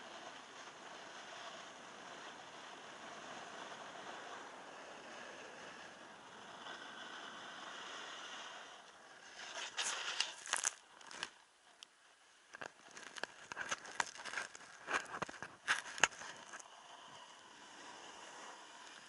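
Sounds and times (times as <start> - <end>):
ski edges scraping on snow: 0.1 - 11.4, 12.6 - 19.0.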